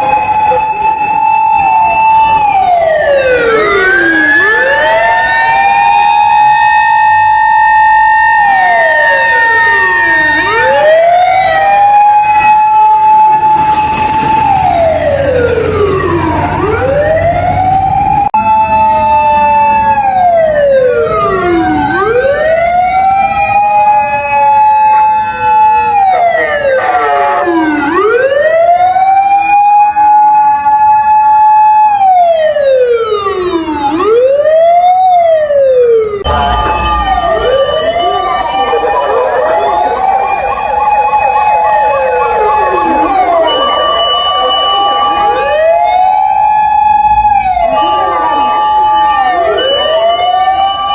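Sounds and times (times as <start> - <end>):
fire engine siren wailing: 0.0 - 50.9.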